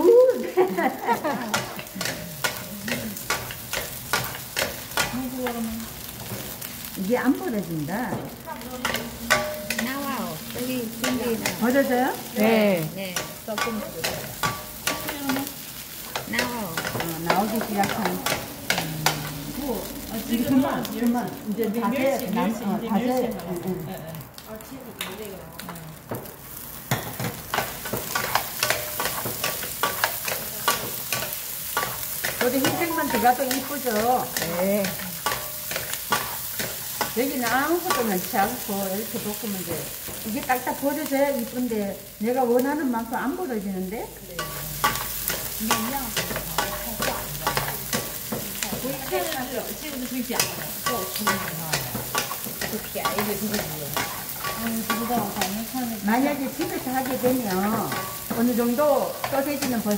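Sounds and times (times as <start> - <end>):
sausages sizzling in oil: 0.0 - 59.9.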